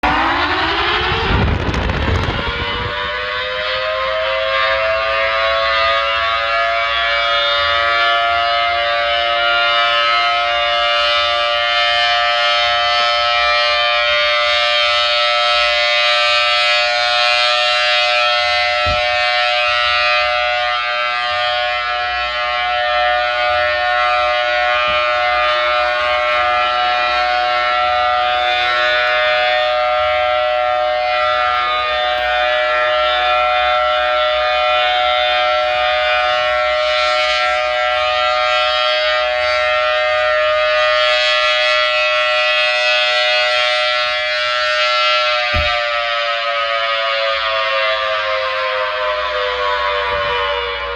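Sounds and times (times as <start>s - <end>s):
two-note air raid siren: 0.0s - 50.9s.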